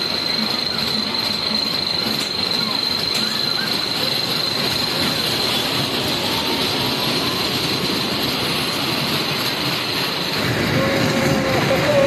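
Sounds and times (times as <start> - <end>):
coaster rolling rumble: 0.0 - 12.0.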